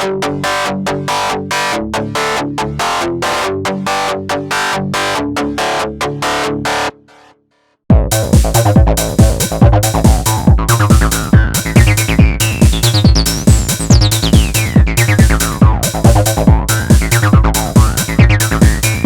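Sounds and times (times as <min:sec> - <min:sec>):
pulsing synth bass: 0:00.0 - 0:07.0, 0:07.9 - 0:19.0.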